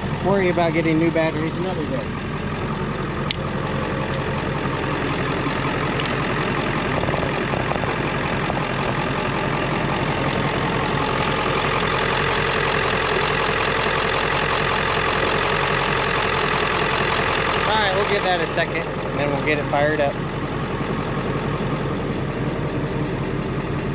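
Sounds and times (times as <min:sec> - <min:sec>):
vehicle engine idling: 0:00.0 - 0:23.9.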